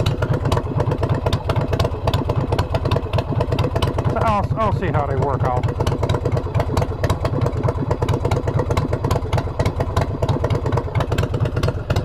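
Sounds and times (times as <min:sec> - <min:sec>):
motorcycle idling: 0:00.0 - 0:12.0.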